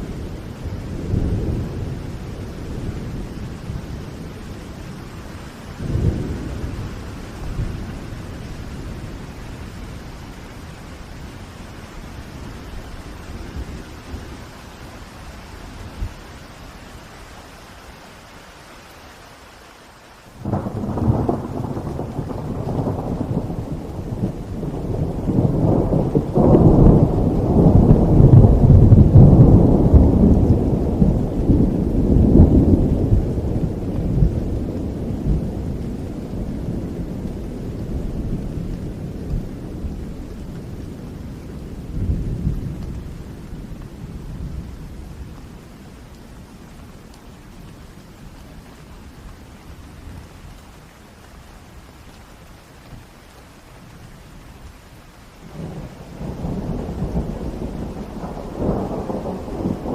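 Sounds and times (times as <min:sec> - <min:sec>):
thunder rumbling: 0:00.0 - 0:16.8, 0:20.4 - 0:50.6, 0:55.2 - 0:59.9
steady rain: 0:00.0 - 0:59.9.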